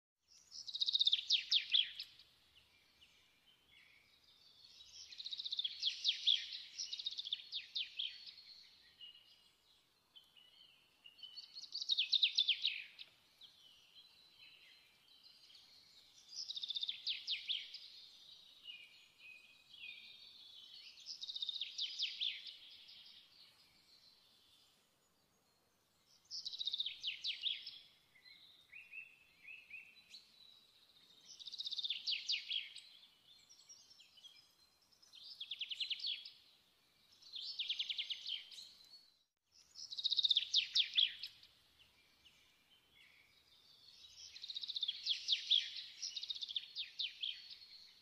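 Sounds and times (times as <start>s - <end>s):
songbird singing: 0.2s - 48.0s.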